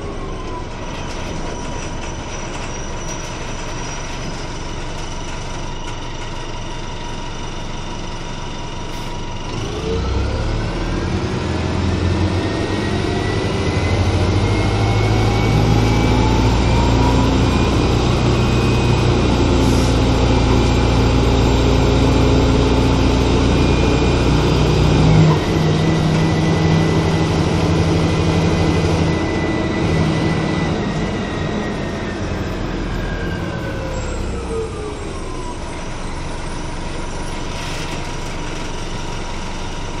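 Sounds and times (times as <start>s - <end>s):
bus diesel engine: 0.0s - 40.0s
rising drivetrain whine: 0.0s - 40.0s.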